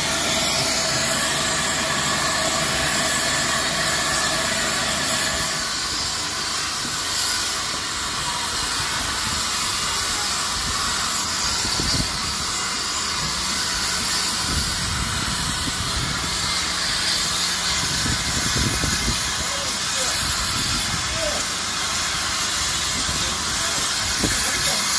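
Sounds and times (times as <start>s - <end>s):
locomotive steam hissing: 0.0s - 24.9s.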